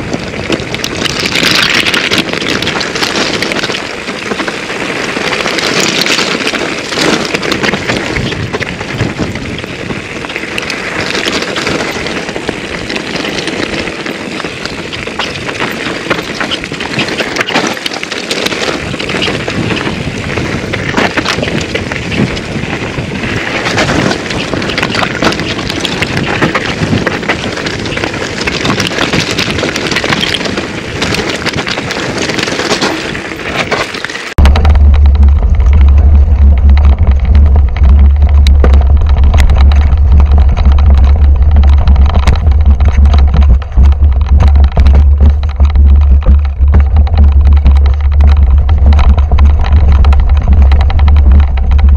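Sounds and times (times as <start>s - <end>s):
bike rattling: 0.0s - 51.9s
tyres crunching over loose stone: 0.0s - 51.9s
wind buffeting microphone: 0.0s - 51.9s.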